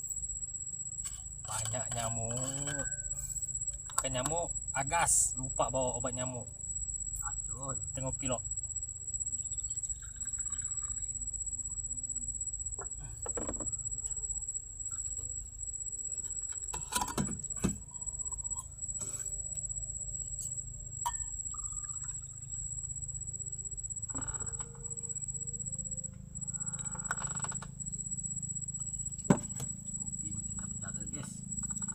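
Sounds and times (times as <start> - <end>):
high-pitched insect whine: 0.0 - 31.9.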